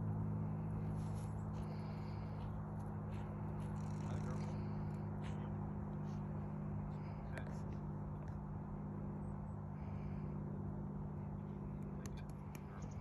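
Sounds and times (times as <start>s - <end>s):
distant indistinct voices: 0.0s - 13.0s
steady low hum: 0.0s - 13.0s.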